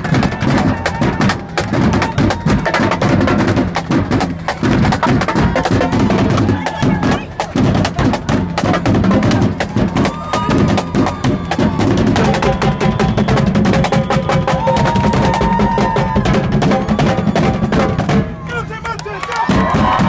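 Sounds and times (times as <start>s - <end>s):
crowd voices: 0.0s - 20.0s
drumline playing: 0.0s - 20.0s.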